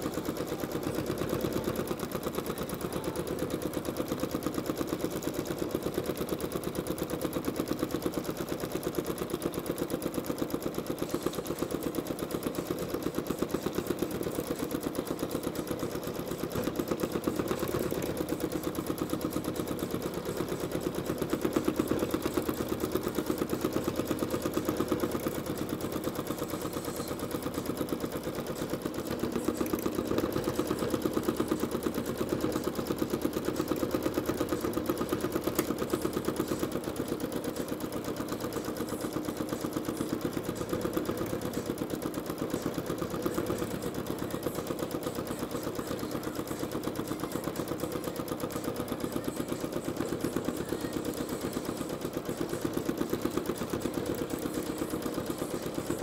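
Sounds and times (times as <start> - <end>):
sewing machine stitching clatter: 0.0 - 56.0.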